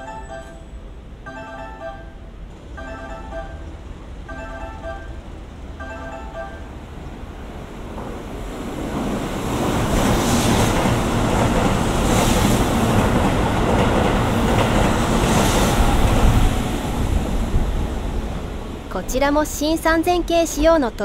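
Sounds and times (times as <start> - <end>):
train passing at speed: 0.0 - 21.0.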